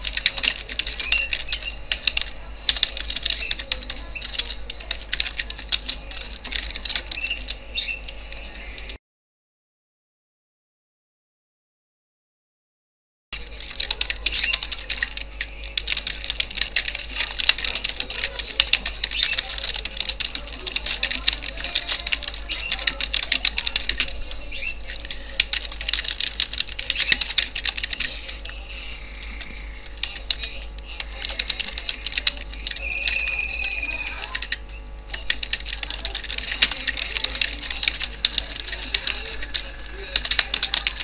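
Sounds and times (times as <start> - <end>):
typing on computer keyboard: 0.0 - 9.0, 13.4 - 41.0.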